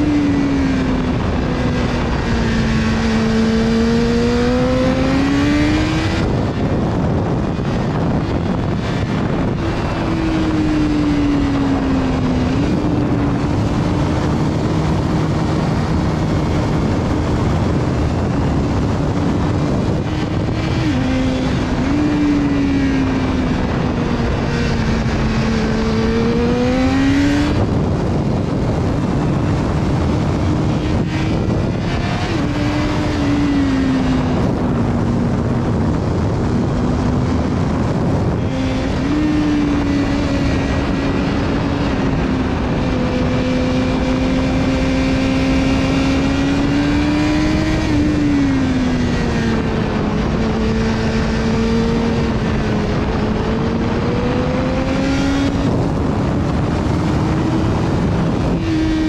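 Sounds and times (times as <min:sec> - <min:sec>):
motorcycle engine: 0:00.0 - 0:59.0
wind noise: 0:00.0 - 0:59.0.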